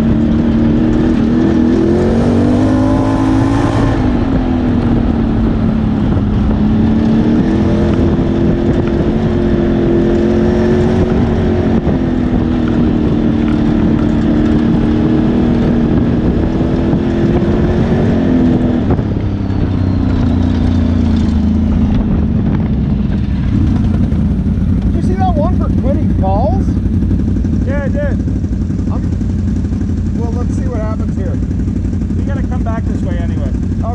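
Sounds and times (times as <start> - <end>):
atv engine under throttle: 0.0 - 33.9.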